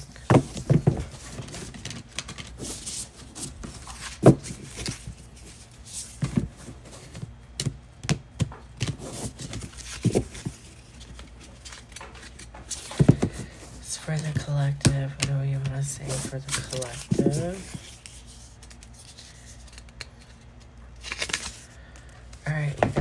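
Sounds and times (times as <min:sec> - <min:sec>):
cards being shuffled: 0:00.0 - 0:23.0.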